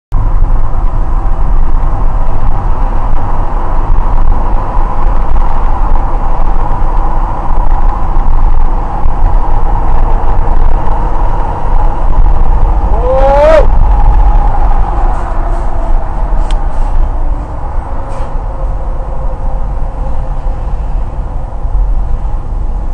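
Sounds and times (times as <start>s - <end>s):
car road and engine rumble: 0.1s - 22.9s.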